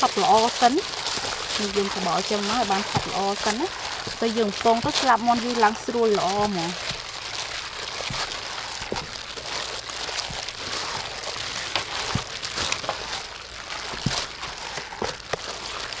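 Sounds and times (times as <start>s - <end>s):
plastic gloves crinkling: 0.0s - 16.0s
wet squelching of batter: 0.0s - 16.0s.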